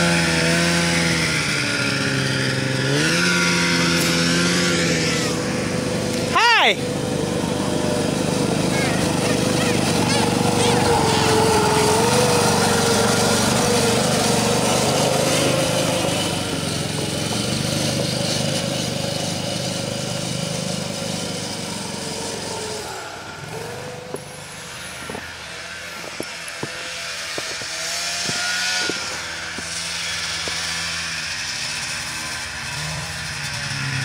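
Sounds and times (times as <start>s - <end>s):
engine rising in pitch: 0.0s - 34.0s
snowmobile engine running: 0.0s - 34.0s.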